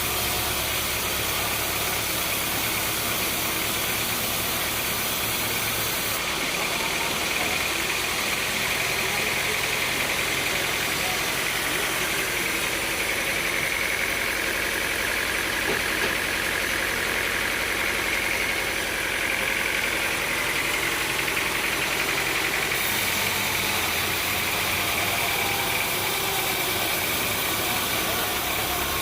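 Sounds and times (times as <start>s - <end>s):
motor droning: 0.0s - 29.0s.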